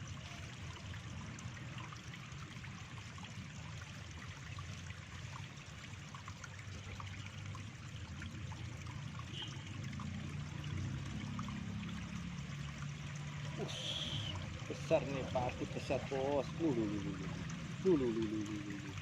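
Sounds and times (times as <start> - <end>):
water trickling and flowing: 0.0 - 19.0.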